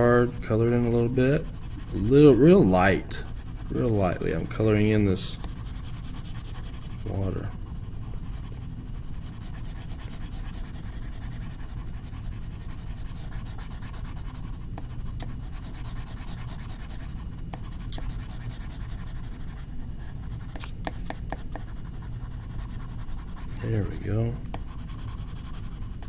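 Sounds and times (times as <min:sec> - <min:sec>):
colouring tool scratching on paper: 0:00.0 - 0:26.0.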